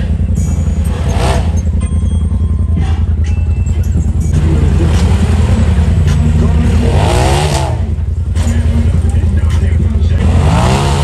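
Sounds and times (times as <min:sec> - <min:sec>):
background music with bass line: 0:00.0 - 0:11.0
vehicle engine running: 0:00.0 - 0:11.0.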